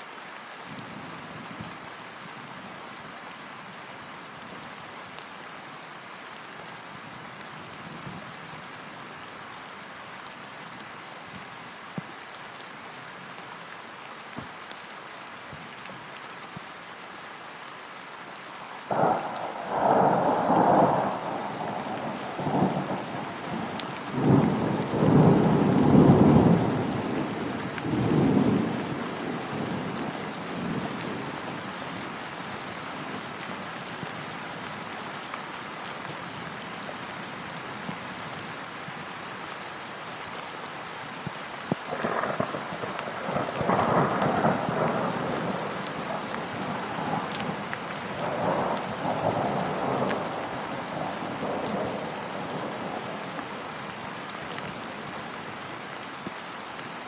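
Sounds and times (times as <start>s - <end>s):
rain falling on a lake: 0.0s - 57.0s.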